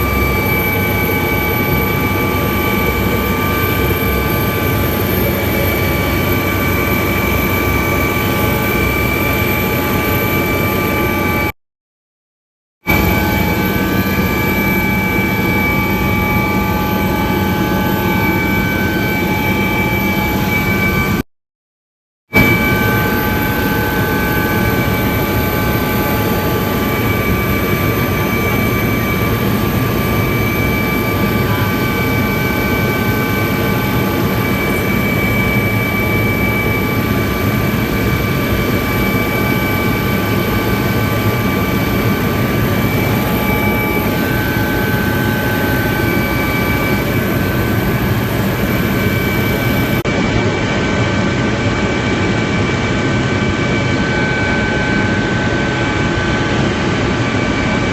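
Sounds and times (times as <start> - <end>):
helicopter engine and rotor drone: 0.0 - 11.5, 12.8 - 21.2, 22.3 - 57.9
high whining tones: 0.0 - 11.5, 12.9 - 21.2, 22.4 - 50.0.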